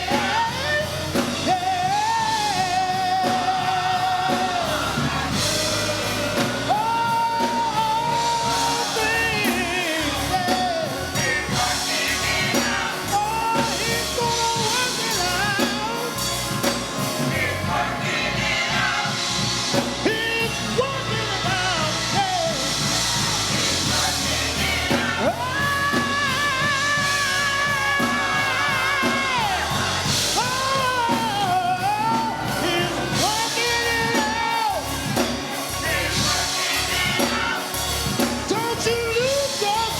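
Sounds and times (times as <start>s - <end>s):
band playing drums and bass: 0.0s - 39.9s.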